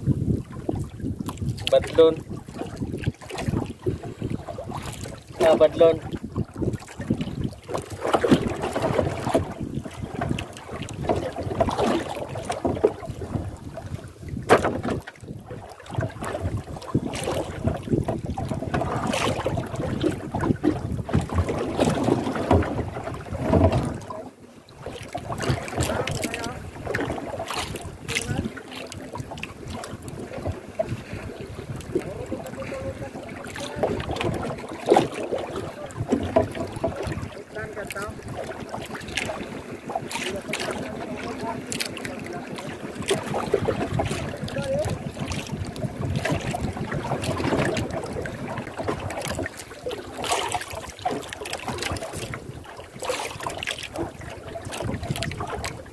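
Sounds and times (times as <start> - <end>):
water slapping against boat: 0.0 - 55.9
wind buffeting microphone: 0.0 - 55.9.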